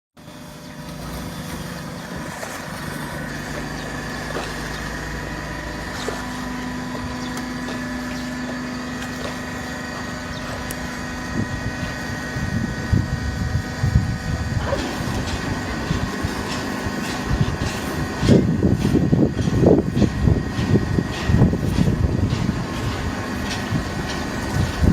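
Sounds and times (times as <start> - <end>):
baler machine humming: 0.2 - 24.9.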